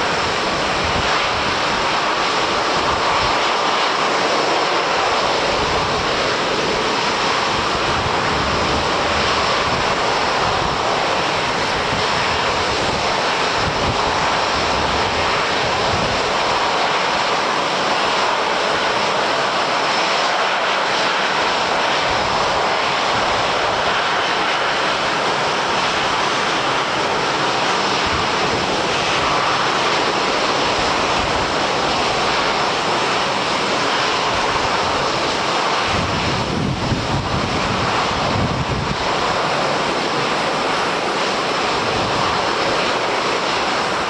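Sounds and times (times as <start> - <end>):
airliner engines roaring: 0.0 - 44.0.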